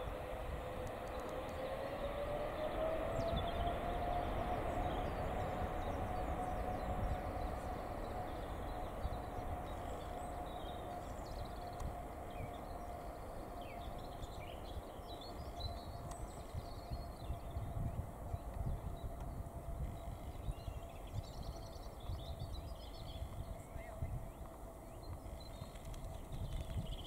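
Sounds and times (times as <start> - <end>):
jet engines whining and rumbling: 0.0 - 27.0.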